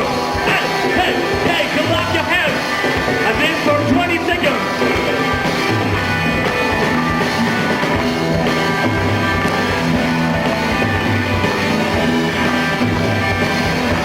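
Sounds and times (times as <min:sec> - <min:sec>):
rock band playing guitars and drums: 0:00.0 - 0:14.0.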